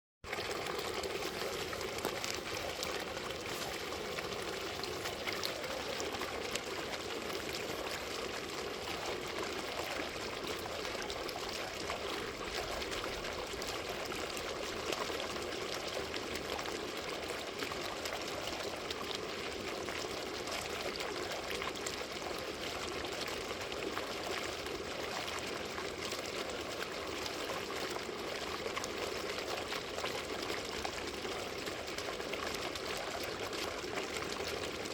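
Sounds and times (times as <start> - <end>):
fountain water splashing: 0.2 - 34.9.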